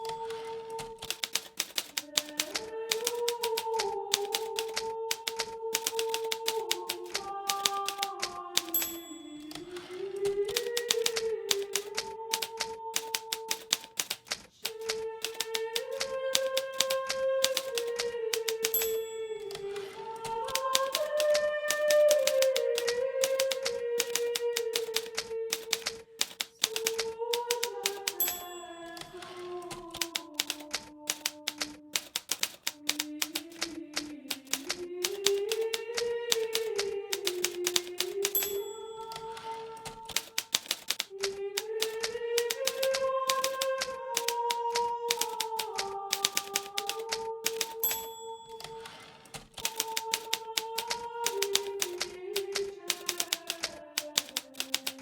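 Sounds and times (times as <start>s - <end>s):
typewriter keys striking: 0.0s - 55.0s.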